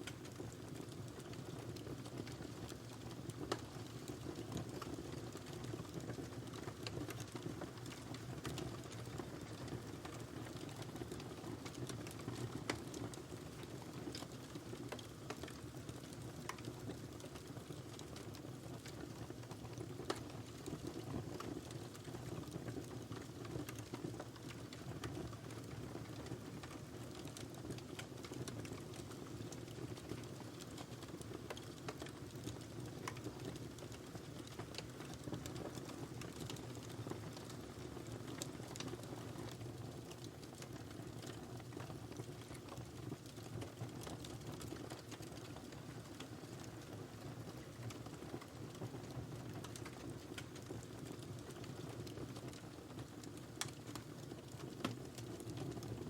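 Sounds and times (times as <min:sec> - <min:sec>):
fire crackles and pops: 0:00.0 - 0:56.0.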